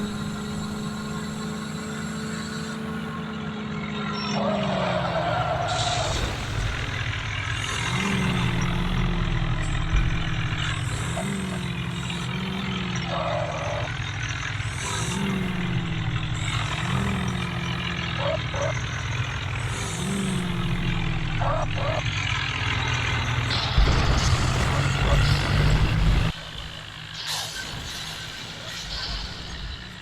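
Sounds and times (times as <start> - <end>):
tractor engine revving: 0.0 - 30.0.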